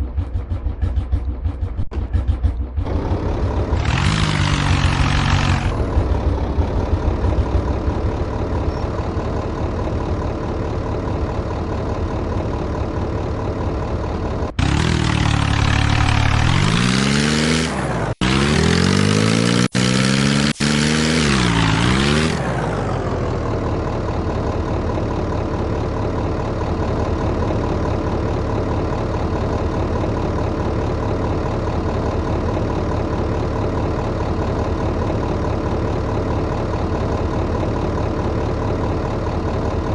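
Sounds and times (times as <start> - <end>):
tractor engine idling and revving: 0.0 - 39.9.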